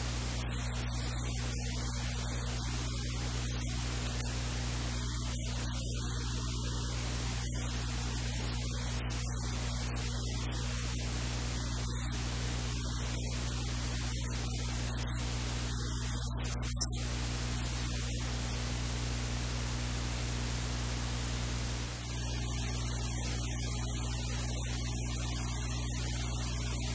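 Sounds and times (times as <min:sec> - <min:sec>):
electrical hiss: 0:00.0 - 0:26.9
low mains hum: 0:00.0 - 0:26.9.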